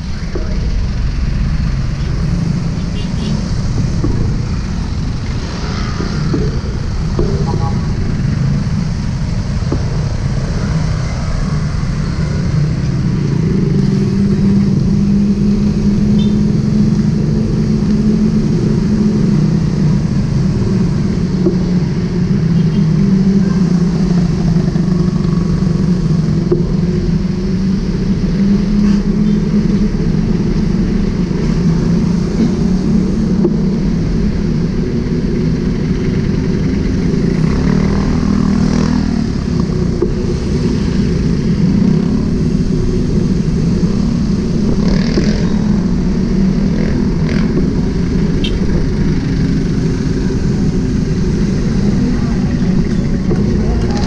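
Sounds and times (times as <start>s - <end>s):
motorcycle engine droning: 0.0s - 54.0s
surrounding traffic: 0.0s - 54.0s.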